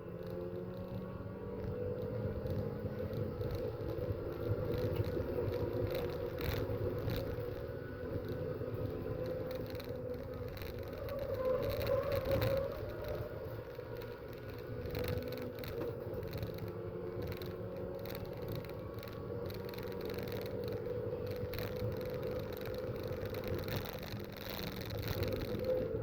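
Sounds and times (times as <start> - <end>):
racing car engines droning: 0.0 - 26.0.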